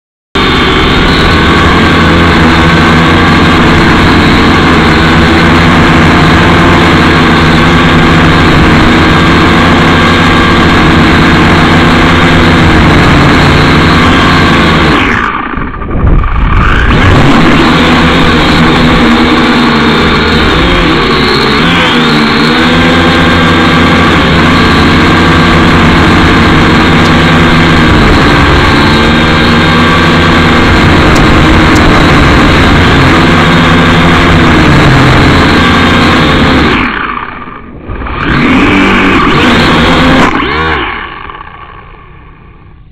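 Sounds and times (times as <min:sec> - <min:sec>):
drone motors and propellers: 0:00.4 - 0:42.9.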